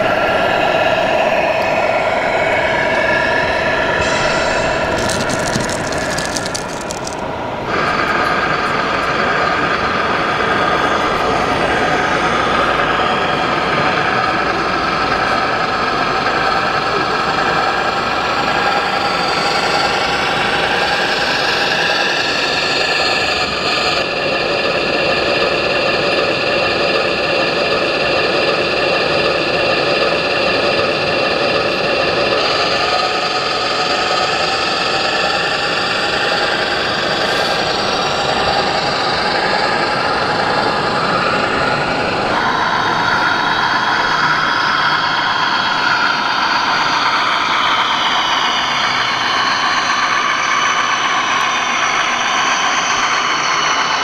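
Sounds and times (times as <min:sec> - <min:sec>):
crowded hall din: 0:00.0 - 0:54.0
diesel truck engine sounds: 0:00.0 - 0:54.0.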